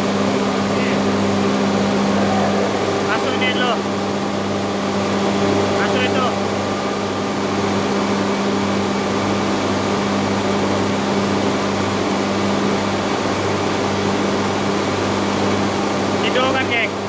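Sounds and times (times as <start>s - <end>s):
machinery droning: 0.0s - 13.8s.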